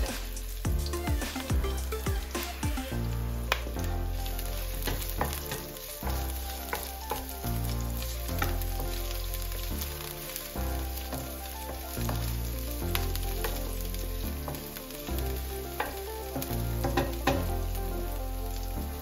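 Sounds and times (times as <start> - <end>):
onion and garlic sizzling in oil: 0.0 - 19.0
soft background music: 0.0 - 19.0.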